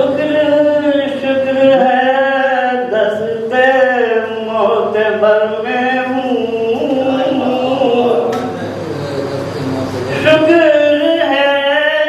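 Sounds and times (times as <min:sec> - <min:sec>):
man chanting slow sung melody: 0:00.0 - 0:08.6, 0:10.0 - 0:12.0.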